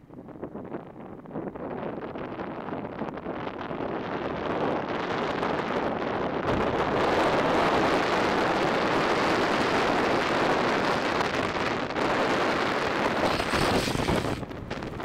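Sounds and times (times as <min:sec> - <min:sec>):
wind rushing over microphone: 0:00.0 - 0:15.0
wheels rolling on asphalt: 0:00.4 - 0:15.0.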